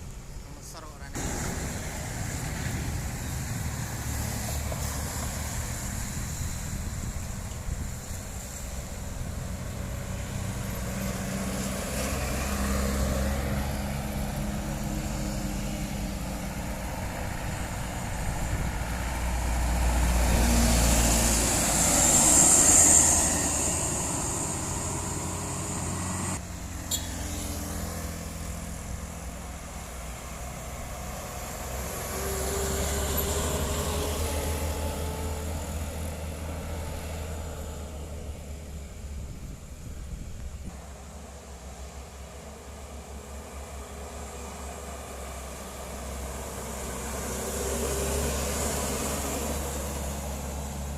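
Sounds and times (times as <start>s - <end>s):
vehicles rumbling past: 0.0s - 50.9s.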